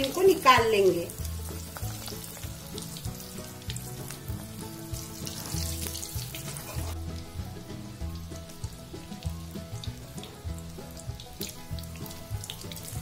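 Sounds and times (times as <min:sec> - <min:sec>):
background music: 0:00.0 - 0:13.0
oil sizzling and crackling: 0:00.0 - 0:13.0.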